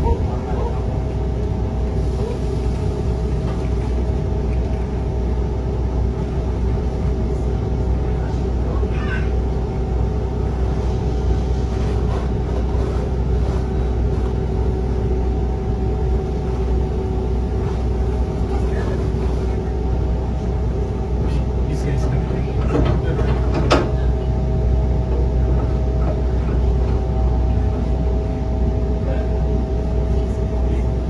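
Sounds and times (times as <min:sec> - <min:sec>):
train coach rumbling on track: 0:00.0 - 0:31.0.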